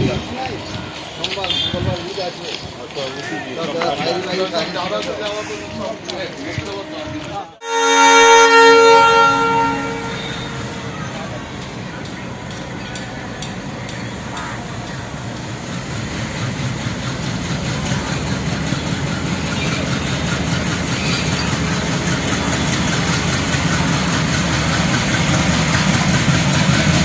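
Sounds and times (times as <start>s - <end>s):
locomotive engine rumble: 0.0s - 27.0s.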